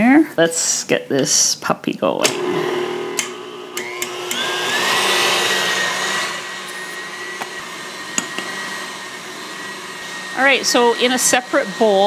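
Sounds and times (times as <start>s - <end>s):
stand mixer motor whining: 2.2s - 12.0s.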